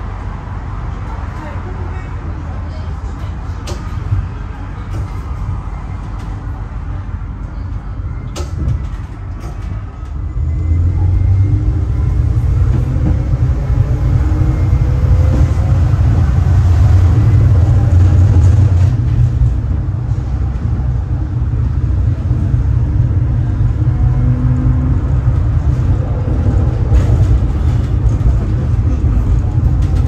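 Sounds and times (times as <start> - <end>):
tram rumbling on rails: 0.0 - 30.0.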